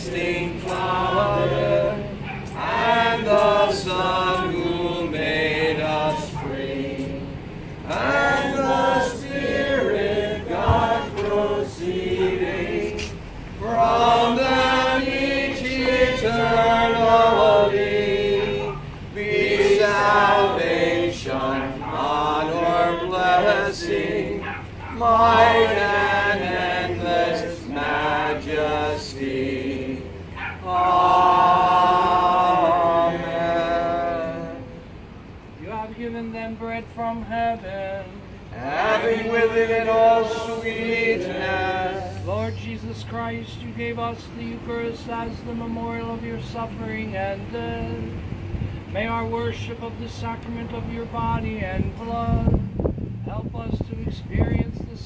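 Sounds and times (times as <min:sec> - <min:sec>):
congregation singing a hymn: 0:00.0 - 0:35.0, 0:35.6 - 0:48.2.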